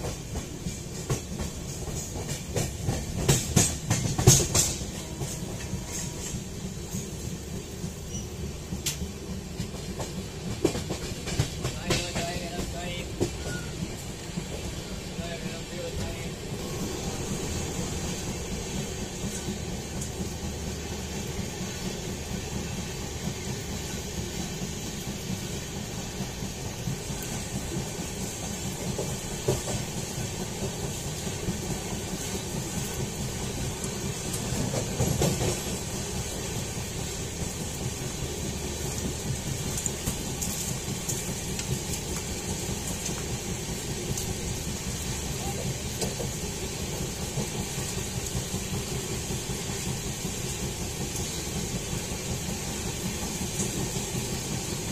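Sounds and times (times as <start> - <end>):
train clatter: 0.0 - 54.9
train wheels rumbling on track: 0.0 - 54.9.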